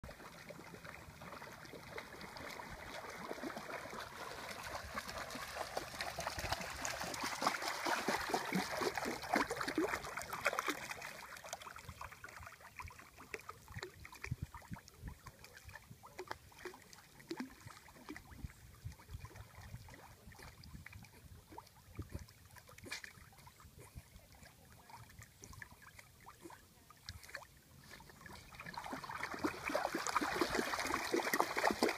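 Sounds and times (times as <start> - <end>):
dogs splashing in water: 0.1 - 14.4, 15.6 - 24.1, 24.8 - 31.9.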